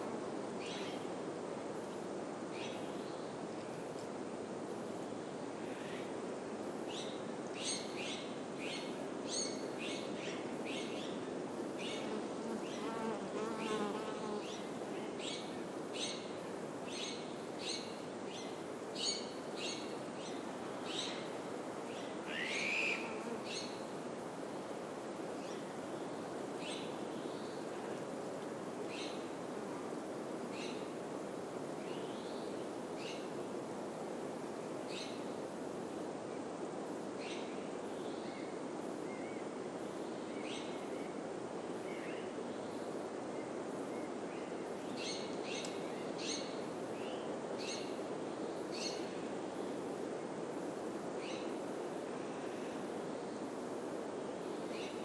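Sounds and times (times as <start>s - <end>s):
wind in pine trees: 0.0s - 55.0s.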